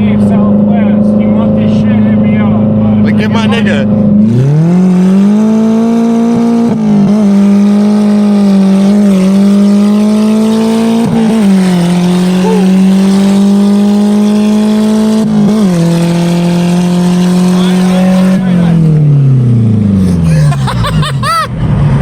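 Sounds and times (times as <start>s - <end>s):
car engine at high revs: 0.0s - 22.0s.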